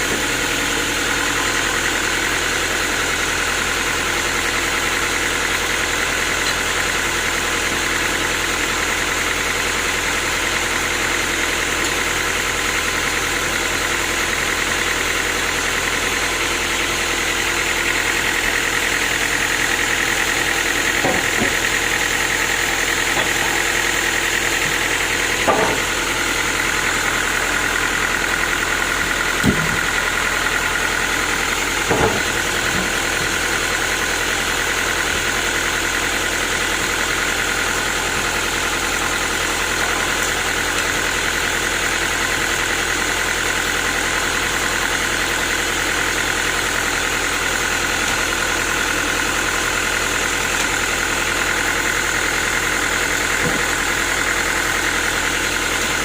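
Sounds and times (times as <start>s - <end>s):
sawmill machinery whining: 0.0s - 56.0s.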